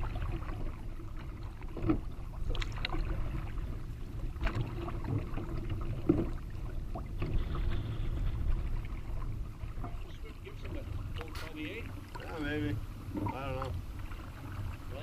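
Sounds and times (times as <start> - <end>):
paddle splashing: 0.0 - 15.0
water slapping a hull: 0.0 - 15.0
wind and waves rumbling: 0.0 - 15.0.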